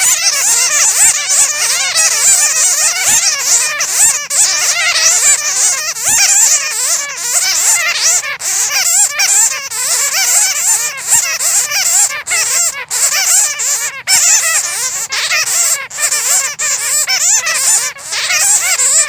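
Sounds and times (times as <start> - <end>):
bats squeaking and chittering: 0.0 - 19.0.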